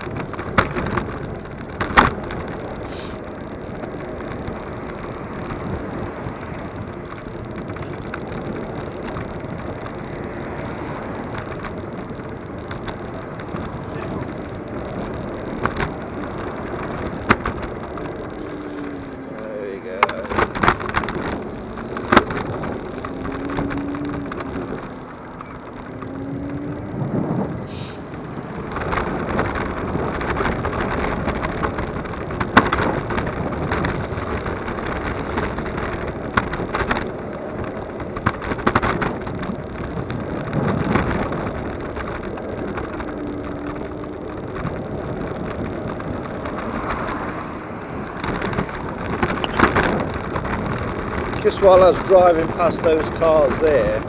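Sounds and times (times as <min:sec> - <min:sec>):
sharp knocks and rattles: 0:00.0 - 0:02.7, 0:03.8 - 0:19.2, 0:19.9 - 0:26.8, 0:28.2 - 0:47.4, 0:48.1 - 0:54.0
wind and road noise: 0:00.0 - 0:54.0.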